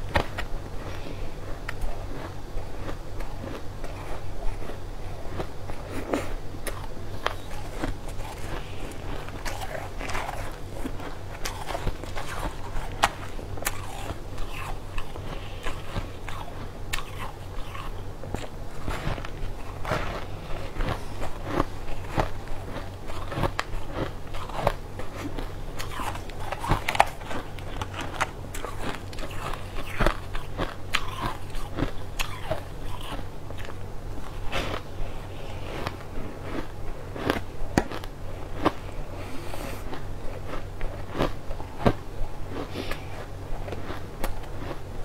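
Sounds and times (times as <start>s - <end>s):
chewing crunchy sweet: 0.0s - 45.0s
low hum: 0.0s - 45.0s.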